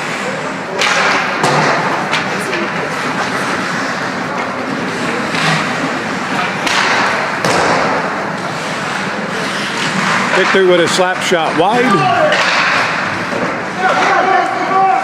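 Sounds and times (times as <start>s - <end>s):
puck and sticks striking: 0.0s - 15.0s.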